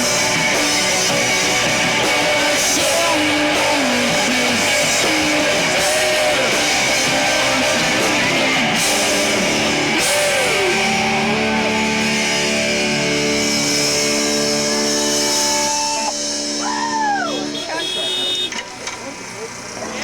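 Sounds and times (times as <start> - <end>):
distorted electric guitars: 0.0 - 20.0.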